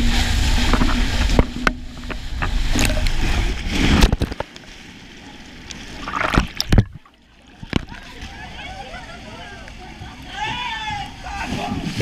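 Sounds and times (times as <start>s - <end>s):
water rushing down slide: 0.0s - 12.0s.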